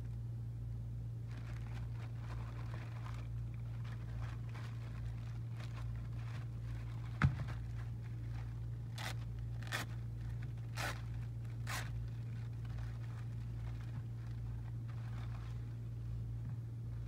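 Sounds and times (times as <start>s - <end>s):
low hum: 0.0s - 17.0s
plastic bag crinkling and tearing: 1.3s - 16.0s.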